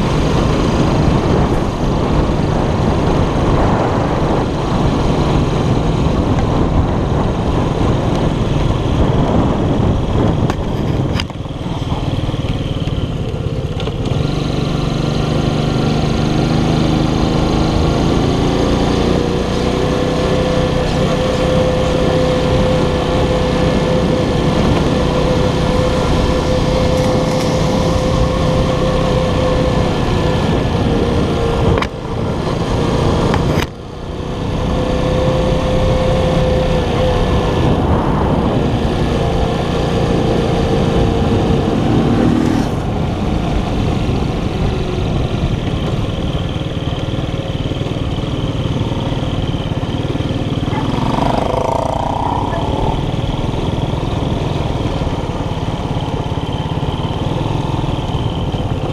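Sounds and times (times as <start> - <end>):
moped engine running: 0.0 - 58.9
wind noise on camera: 0.0 - 58.9.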